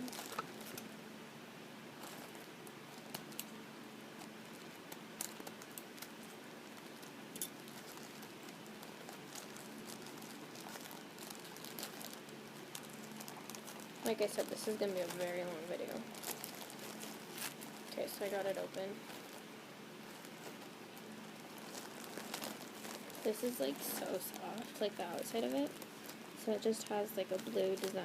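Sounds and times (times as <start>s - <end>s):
packaging bag crinkling: 0.0s - 0.8s, 1.9s - 3.5s, 4.1s - 28.0s.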